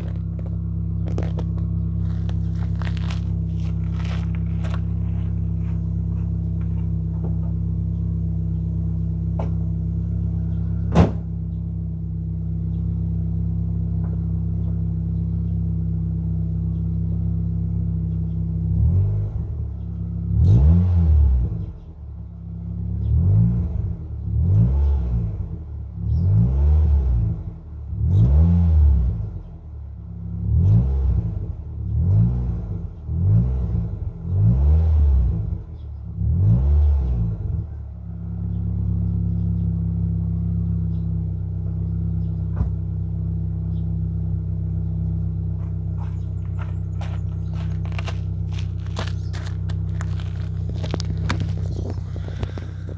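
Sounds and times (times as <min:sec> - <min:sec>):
car engine idling and revving: 0:00.0 - 0:52.9.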